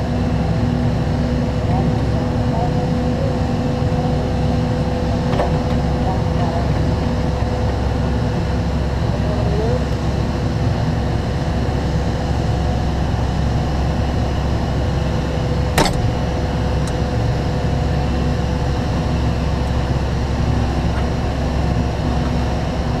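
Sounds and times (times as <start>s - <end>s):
truck engine rumble: 0.0s - 23.0s.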